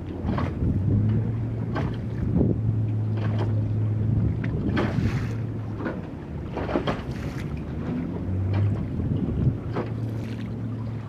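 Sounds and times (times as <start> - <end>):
boat engine droning: 0.0 - 11.0
water splashing: 0.0 - 11.0
wind buffeting microphone: 0.0 - 11.0.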